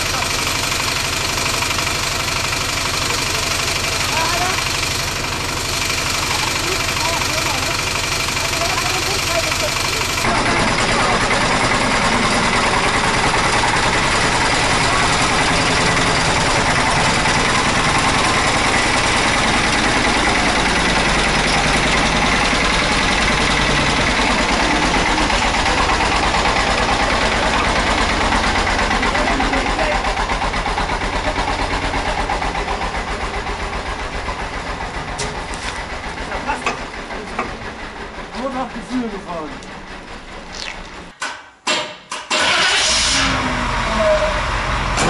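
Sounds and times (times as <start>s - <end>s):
tractor engine running: 0.0s - 41.2s, 42.1s - 45.0s.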